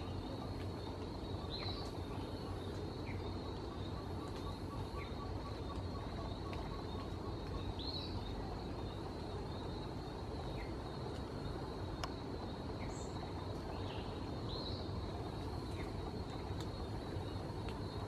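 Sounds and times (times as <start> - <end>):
high insect drone: 0.0 - 18.0
low background rumble: 0.0 - 18.0.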